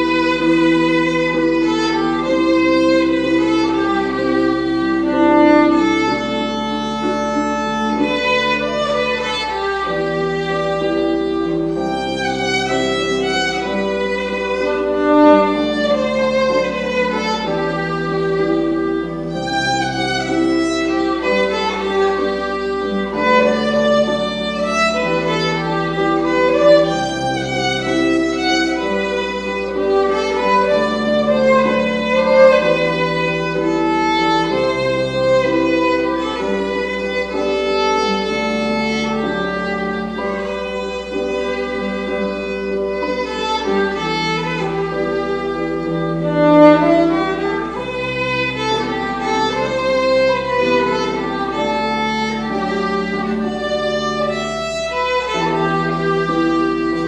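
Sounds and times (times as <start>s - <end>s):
violin melody: 0.0s - 57.0s.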